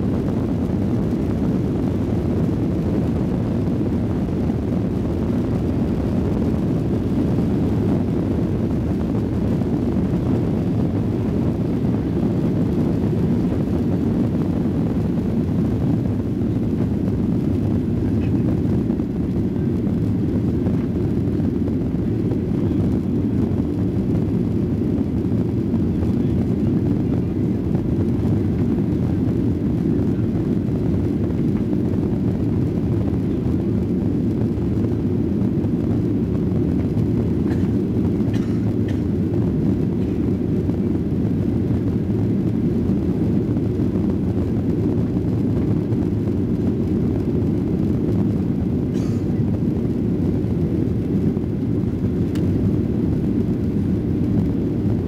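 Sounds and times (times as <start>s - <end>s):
jet engines roaring in cabin: 0.0s - 55.0s.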